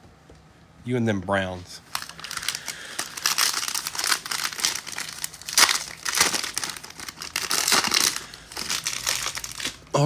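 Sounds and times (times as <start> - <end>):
foil wrappers crinkling and tearing: 1.8 - 10.0.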